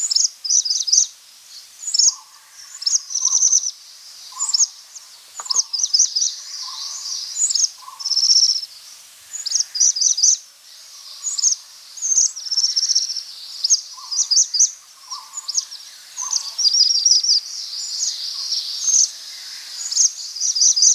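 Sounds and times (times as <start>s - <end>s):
sparrow chirping: 0.0s - 1.1s, 1.8s - 8.7s, 9.3s - 10.4s, 11.0s - 20.9s.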